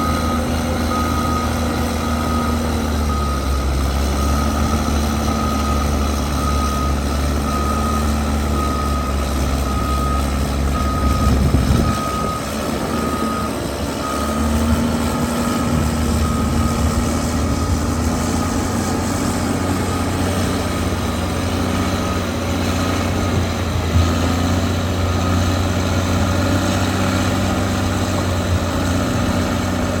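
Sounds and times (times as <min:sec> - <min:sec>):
reversing alarm beeping: 0:00.0 - 0:26.5
bulldozer diesel engine running: 0:00.0 - 0:30.0.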